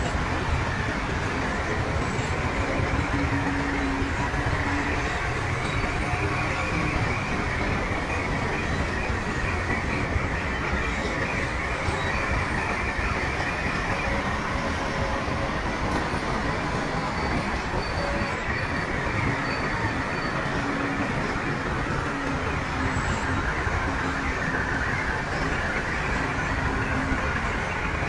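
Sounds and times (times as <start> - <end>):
bulldozer engine and tracks: 0.0 - 28.0.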